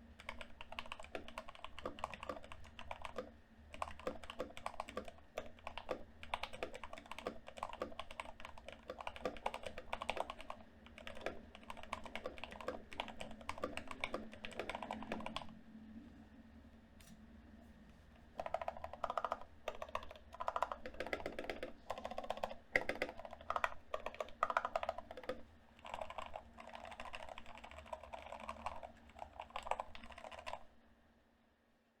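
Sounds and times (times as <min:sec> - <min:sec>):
mechanical keyboard typing: 0:00.2 - 0:15.6, 0:18.4 - 0:30.7.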